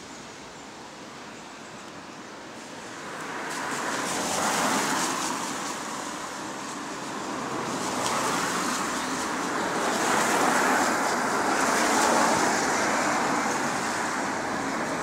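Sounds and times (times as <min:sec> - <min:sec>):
tyre hiss on wet road: 0:00.0 - 0:15.0.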